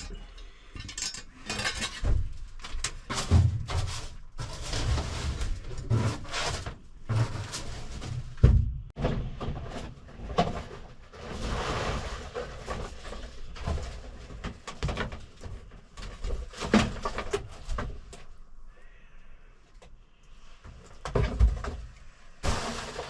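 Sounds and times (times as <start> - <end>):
scraping: 0.0 - 18.5, 20.4 - 23.0
knocks and rattles of panels: 1.5 - 18.2, 20.7 - 23.0.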